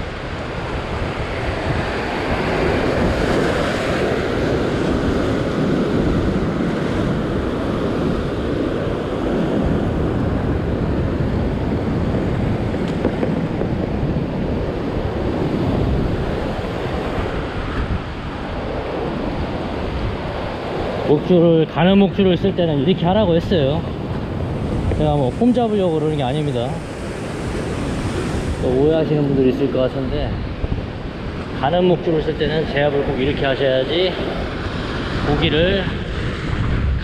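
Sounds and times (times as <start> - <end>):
ocean surf breaking on rocks: 0.0 - 37.0
wind buffeting microphone: 0.0 - 37.0.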